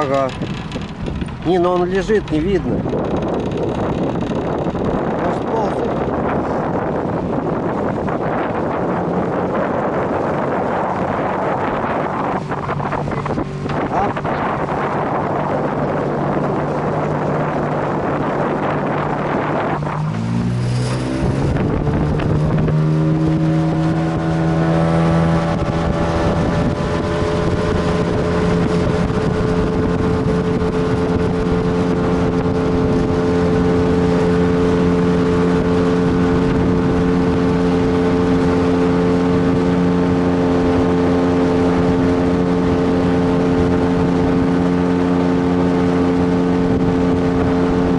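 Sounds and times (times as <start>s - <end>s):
boat motor running: 0.0s - 47.9s
wind and water rushing: 0.0s - 47.9s.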